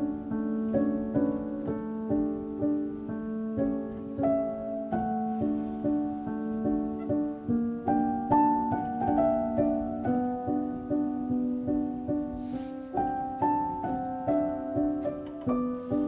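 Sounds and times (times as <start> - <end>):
gentle plucked instrumental melody: 0.0 - 16.0.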